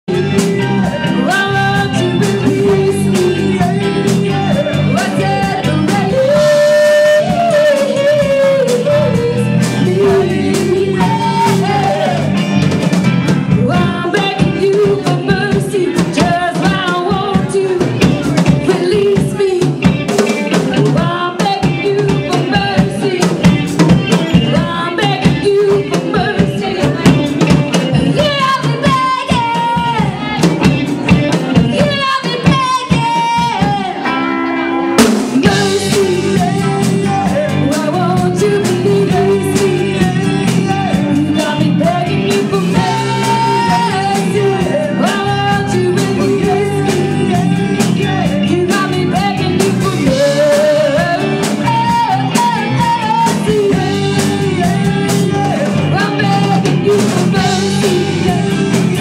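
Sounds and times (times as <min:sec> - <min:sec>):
woman singing into a microphone: 0:00.1 - 0:12.4, 0:13.5 - 0:59.0
drum kit beat: 0:00.1 - 0:59.0
electric guitar: 0:00.1 - 0:59.0.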